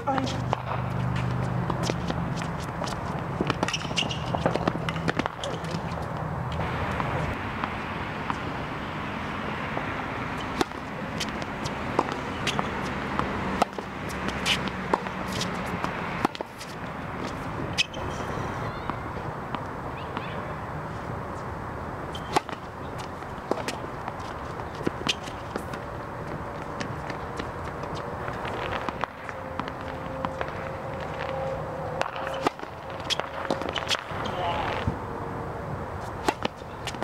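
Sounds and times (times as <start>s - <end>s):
tennis balls struck and bouncing: 0.0s - 20.6s, 21.3s - 35.0s, 36.0s - 37.0s.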